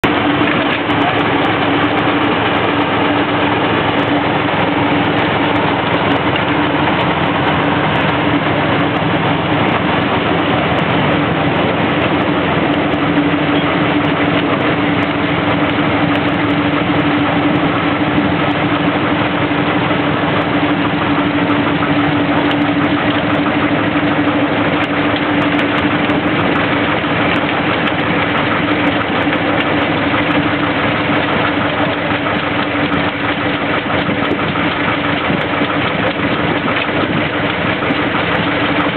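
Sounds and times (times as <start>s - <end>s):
diesel locomotive engine humming: 0.0s - 38.9s.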